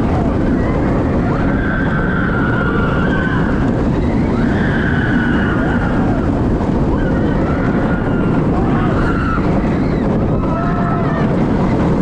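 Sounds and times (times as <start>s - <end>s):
roller coaster wheels rumbling: 0.0s - 12.0s
wind rushing over microphone: 0.0s - 12.0s.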